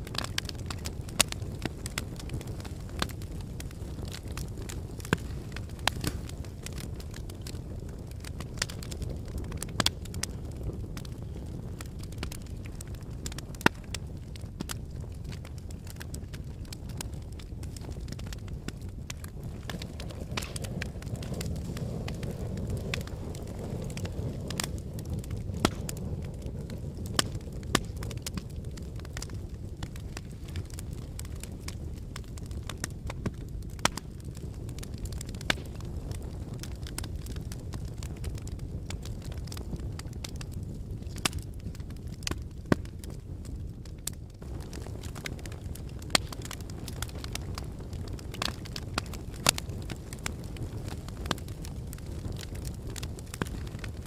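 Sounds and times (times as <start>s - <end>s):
sharp pops of fire: 0.0s - 54.0s
wood fire crackling: 0.0s - 54.0s.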